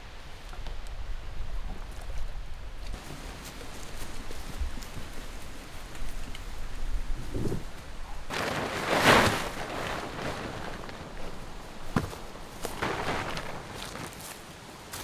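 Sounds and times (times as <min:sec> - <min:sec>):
strong wind rumbling and hissing: 0:00.0 - 0:14.1.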